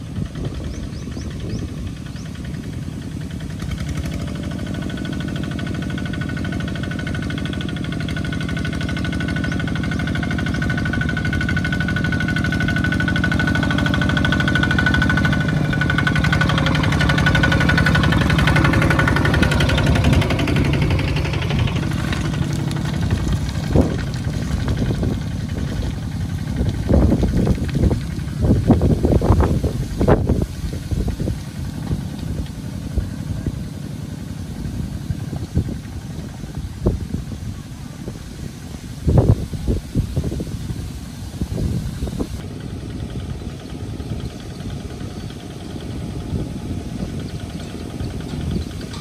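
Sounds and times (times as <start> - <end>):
diesel engine chugging: 0.0 - 49.0.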